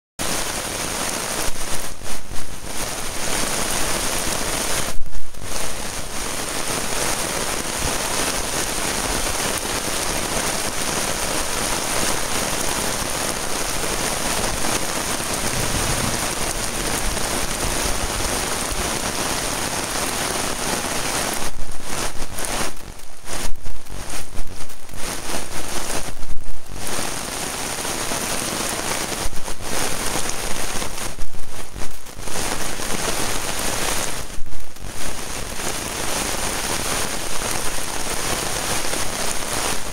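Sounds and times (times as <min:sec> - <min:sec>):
heavy rain on driveway: 0:00.2 - 0:39.9.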